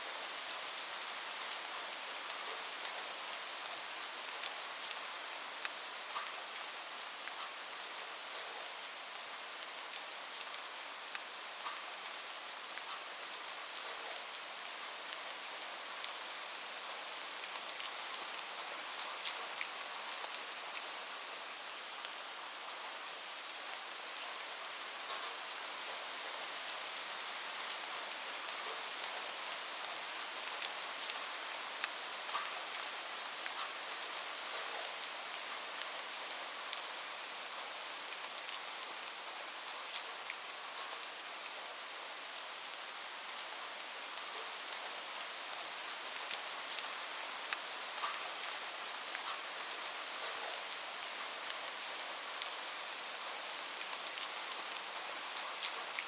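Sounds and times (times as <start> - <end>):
steady rain falling: 0.0 - 56.0
raindrops ticking on a surface: 0.1 - 22.3, 24.1 - 56.0.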